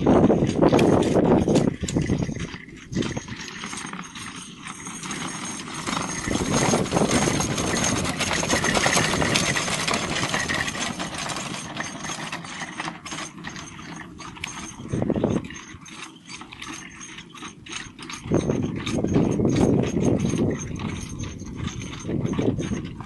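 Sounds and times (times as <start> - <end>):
carriage wheels and harness clattering: 0.0 - 23.0
horse hooves trotting: 0.0 - 23.0.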